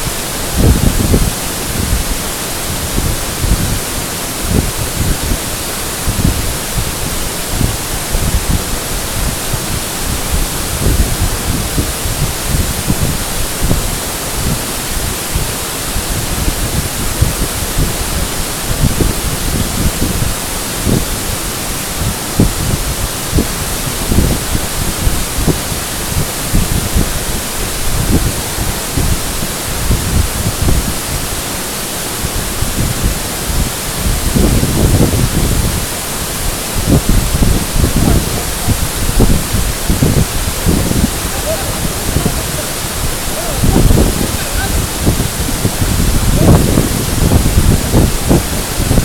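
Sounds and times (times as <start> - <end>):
waterfall rushing: 0.0 - 49.0
wind buffeting microphone: 0.0 - 49.0.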